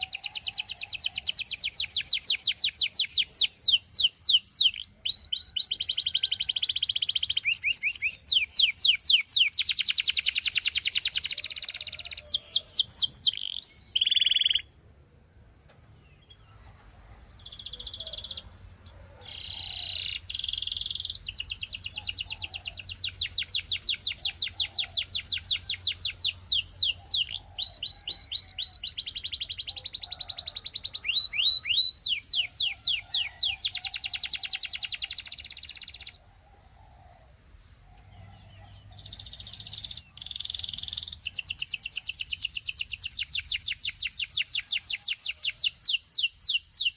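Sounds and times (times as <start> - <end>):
canary singing trills: 0.0 - 14.8, 15.9 - 36.3, 37.8 - 46.9.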